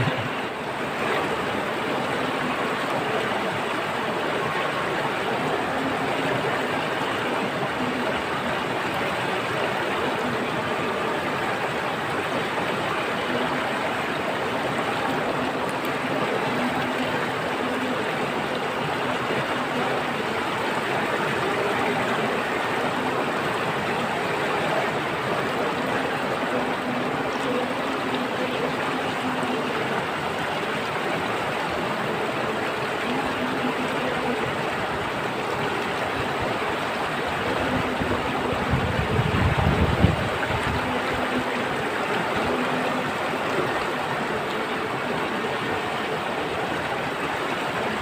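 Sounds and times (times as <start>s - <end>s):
water flowing: 0.0s - 48.0s.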